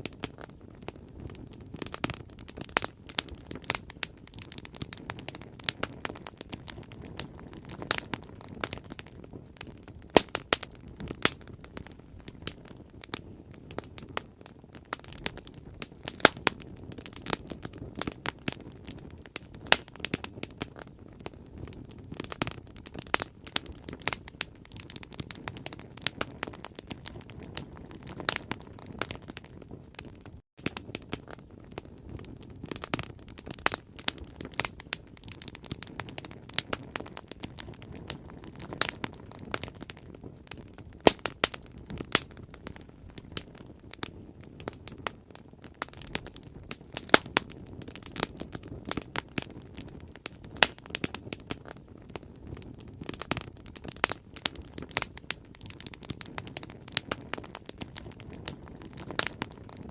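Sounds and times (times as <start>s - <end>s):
bonfire crackles and pops: 0.0s - 59.9s
low rumble of flames: 0.0s - 59.9s.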